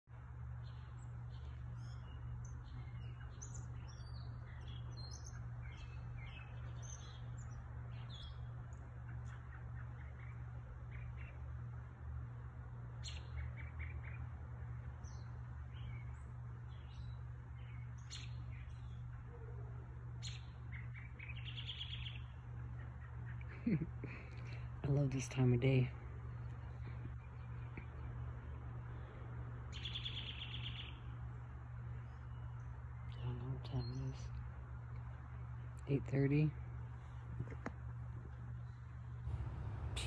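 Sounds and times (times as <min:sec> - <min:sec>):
songbirds singing: 0:00.1 - 0:40.0
steady low hum: 0:00.1 - 0:40.0.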